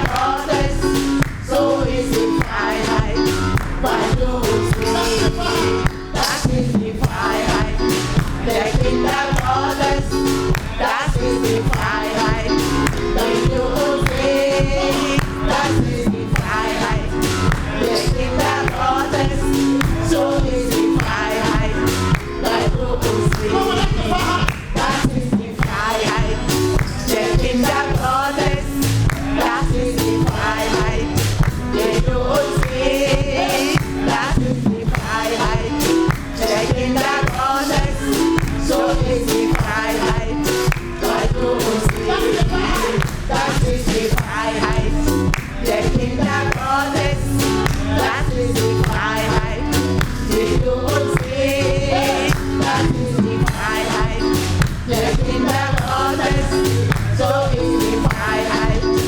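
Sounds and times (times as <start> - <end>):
band with drum beat and bass: 0.0 - 59.0
choir singing: 0.0 - 59.0.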